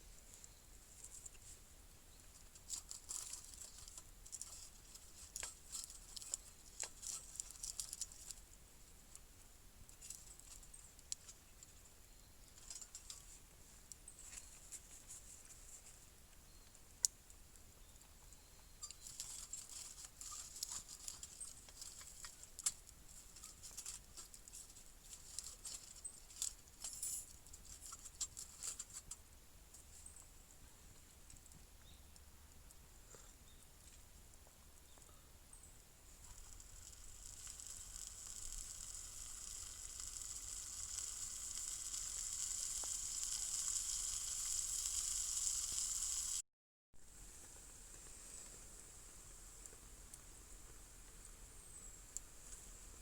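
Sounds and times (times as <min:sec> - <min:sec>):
light crackling and ticking: 0:00.0 - 0:32.9, 0:33.8 - 0:46.4, 0:47.0 - 0:53.0.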